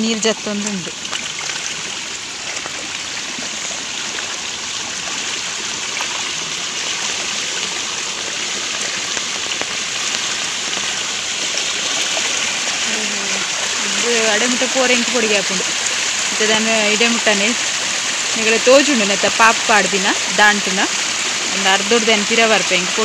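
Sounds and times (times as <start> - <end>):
rainwater rushing down channel: 0.0 - 23.0.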